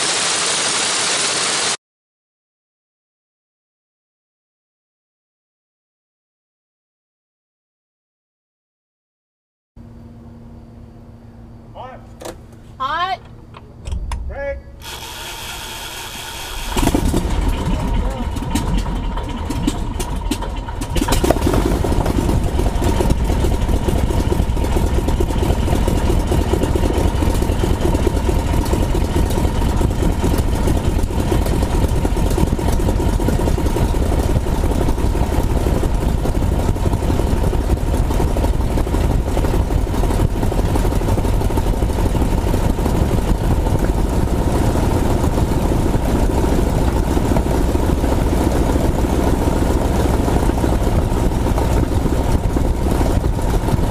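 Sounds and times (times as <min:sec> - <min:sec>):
piston aircraft engine running: 0:09.8 - 0:53.9.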